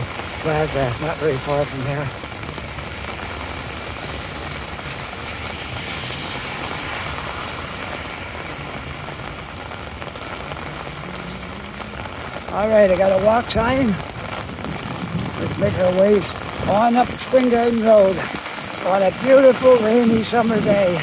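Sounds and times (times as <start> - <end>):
car tyres swishing on wet road: 0.0 - 21.0
steady rain: 0.0 - 21.0.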